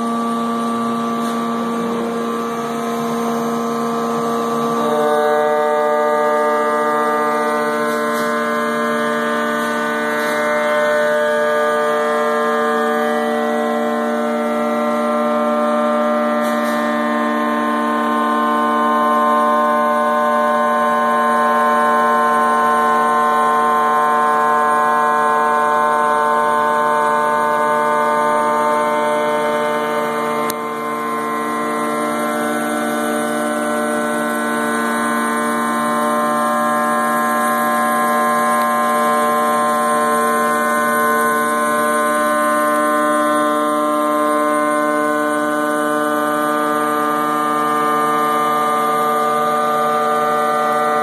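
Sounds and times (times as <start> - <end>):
router bit cutting: 0.0 - 51.0
router spindle whine: 0.0 - 51.0.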